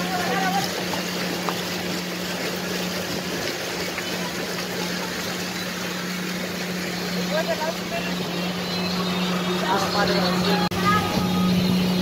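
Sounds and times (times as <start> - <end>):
motorboat engine humming: 0.0 - 12.0
water and wind hiss: 0.0 - 12.0.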